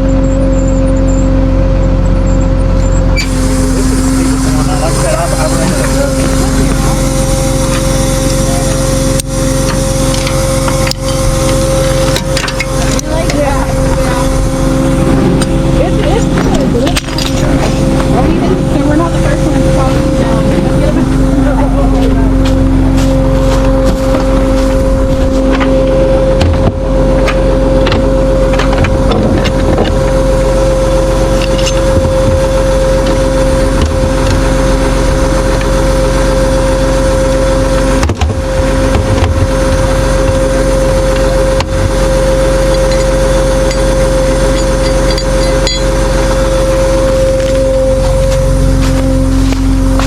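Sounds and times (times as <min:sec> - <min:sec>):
vehicle engine humming: 0:00.0 - 0:50.0.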